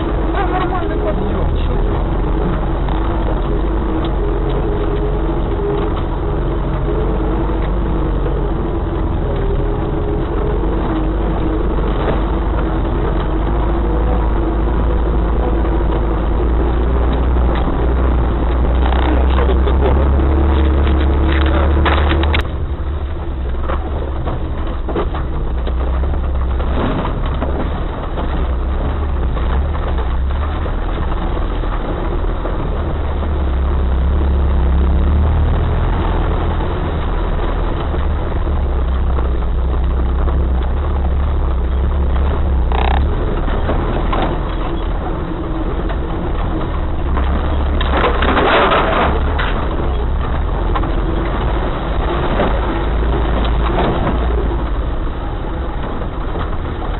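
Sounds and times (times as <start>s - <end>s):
off-road vehicle engine running: 0.0s - 56.9s
rattling noise: 0.0s - 56.9s.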